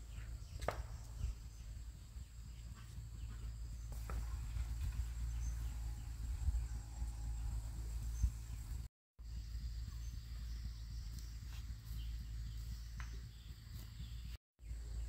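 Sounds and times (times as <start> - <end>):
low rumble: 0.3 - 15.0.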